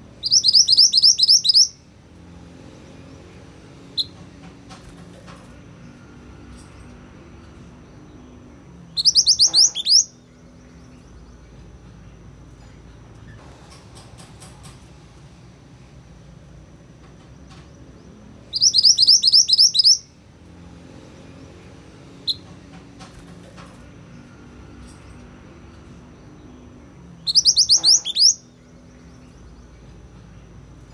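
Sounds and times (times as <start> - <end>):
songbird chirping: 0.0 - 13.6, 15.6 - 30.9.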